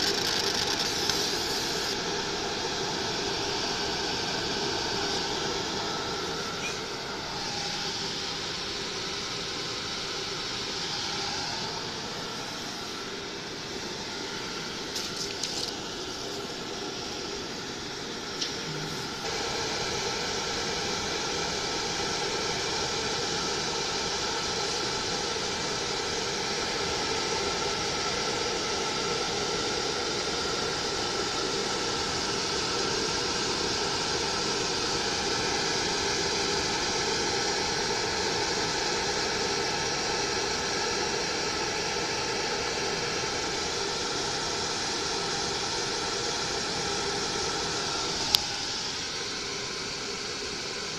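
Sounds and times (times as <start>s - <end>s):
laser cutting machine whirring hum: 0.0s - 50.9s.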